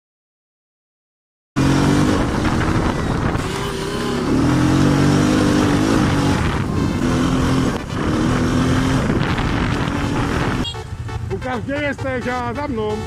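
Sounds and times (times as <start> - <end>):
buggy engine revving: 1.6 - 13.0.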